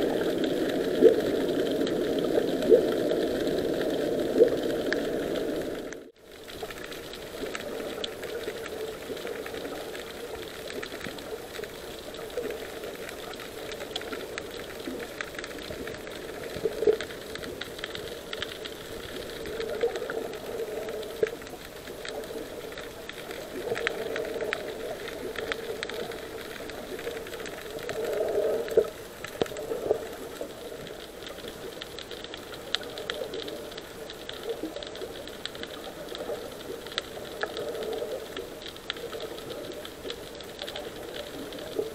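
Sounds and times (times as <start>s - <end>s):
crackling: 0.0s - 41.9s
muffled underwater rush: 0.0s - 41.9s.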